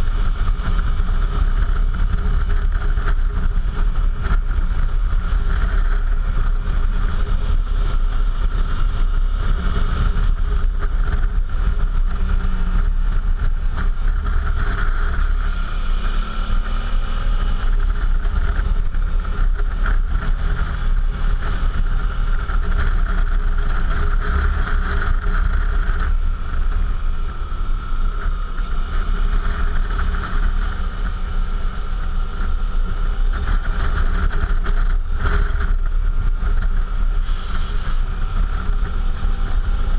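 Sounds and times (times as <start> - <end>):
motorcycle engine rumbling: 0.0 - 39.9
wind noise on microphone: 0.0 - 39.9.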